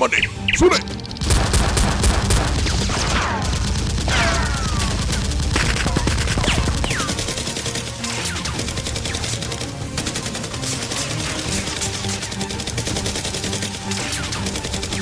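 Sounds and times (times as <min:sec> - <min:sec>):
rapid automatic gunfire: 0:01.2 - 0:15.0.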